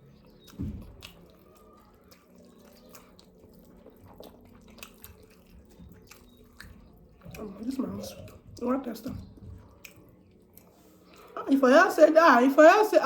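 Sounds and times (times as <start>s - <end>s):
wet eating sounds: 0.0s - 13.0s.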